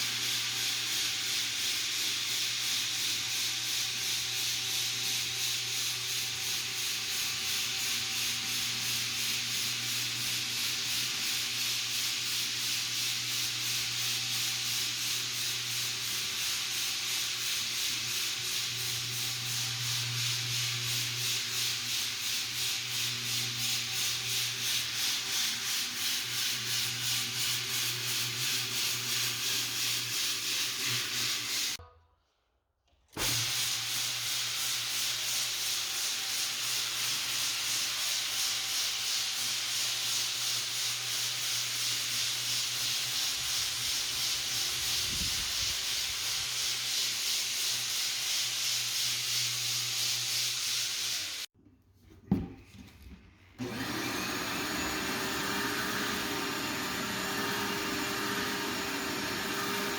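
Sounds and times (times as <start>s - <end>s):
floor sander running: 0.0s - 31.8s, 33.2s - 51.5s, 53.6s - 59.9s.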